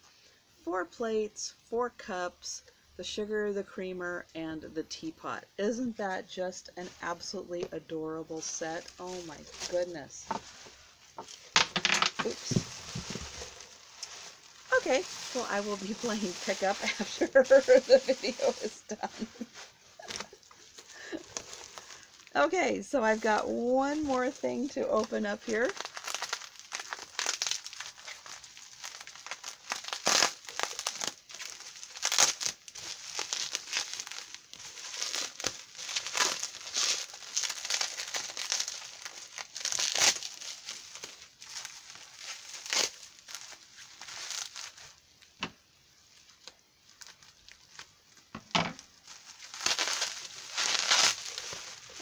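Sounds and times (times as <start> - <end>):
bubble wrap crinkling: 5.1 - 52.0.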